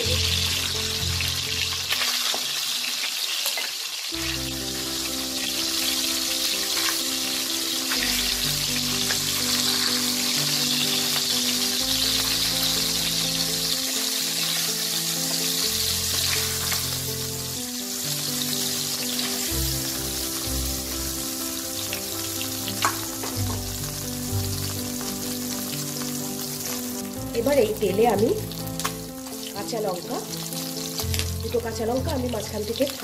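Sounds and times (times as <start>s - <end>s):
fish sizzling in hot oil: 0.0s - 33.0s.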